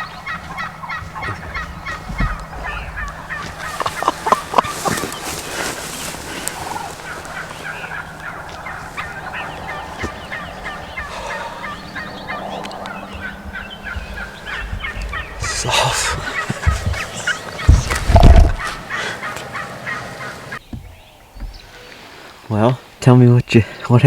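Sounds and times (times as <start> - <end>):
turkeys gobbling: 0.0 - 22.2.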